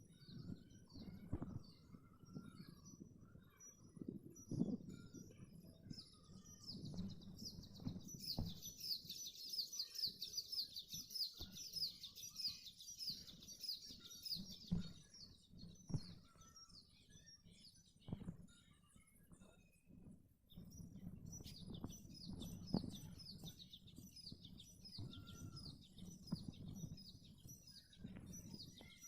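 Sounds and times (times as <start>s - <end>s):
bird singing high chirps: 0.1s - 18.2s, 20.6s - 29.0s.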